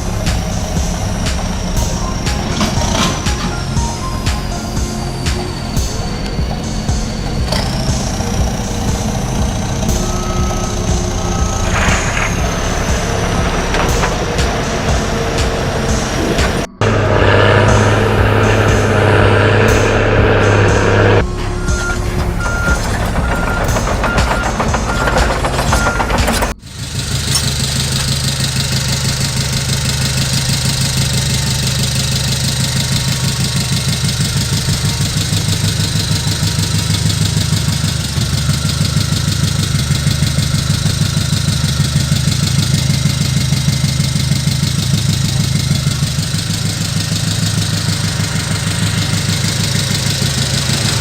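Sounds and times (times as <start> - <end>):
diesel truck engine idling: 0.0 - 51.0.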